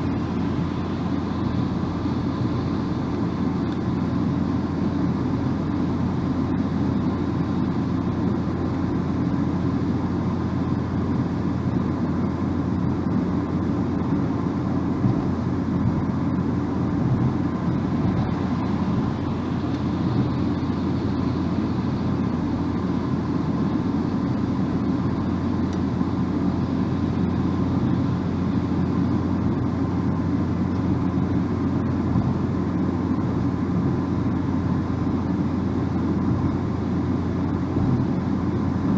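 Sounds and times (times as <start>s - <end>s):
car engine hum: 0.0s - 38.9s
tyres droning on road: 0.0s - 38.9s.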